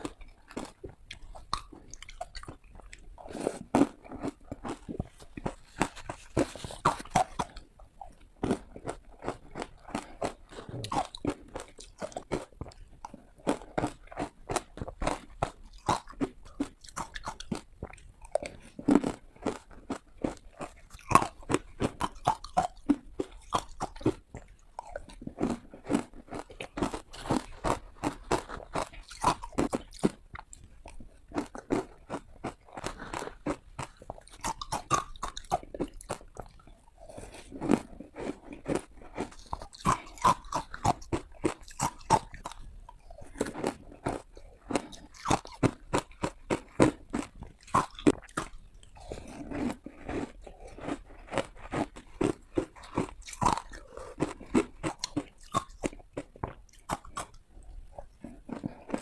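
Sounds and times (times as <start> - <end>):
ice crunched between teeth: 0.0 - 7.7, 8.4 - 30.7, 31.3 - 57.4.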